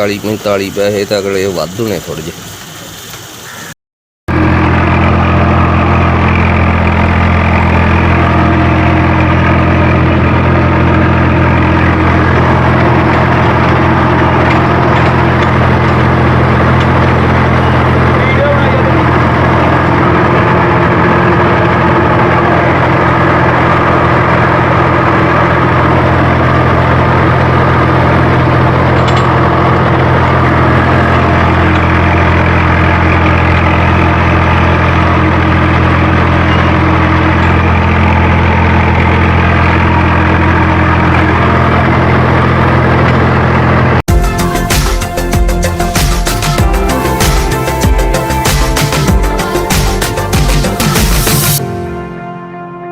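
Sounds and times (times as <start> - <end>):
diesel tractor engine idling: 4.3 - 52.0.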